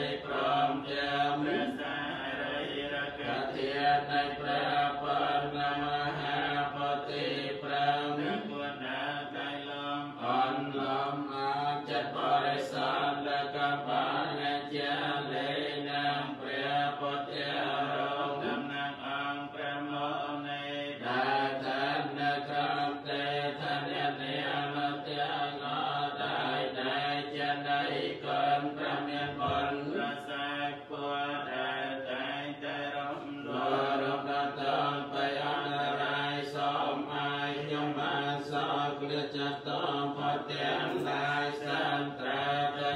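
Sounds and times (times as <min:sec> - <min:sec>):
monks chanting: 0:00.0 - 0:42.9.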